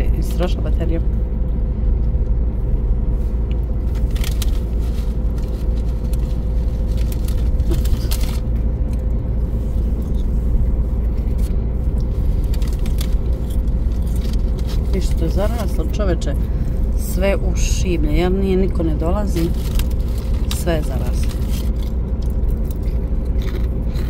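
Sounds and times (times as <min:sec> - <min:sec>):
car driving interior rumble: 0:00.0 - 0:24.0.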